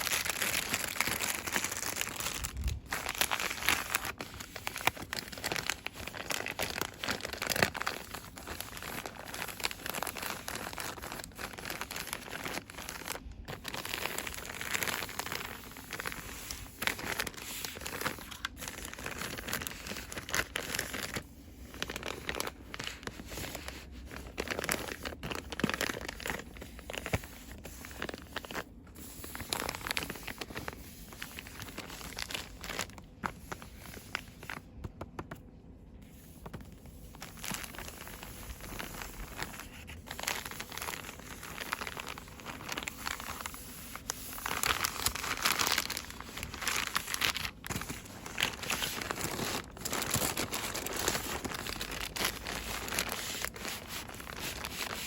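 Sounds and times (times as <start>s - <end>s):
packaging crinkling in hands: 0.0s - 55.0s.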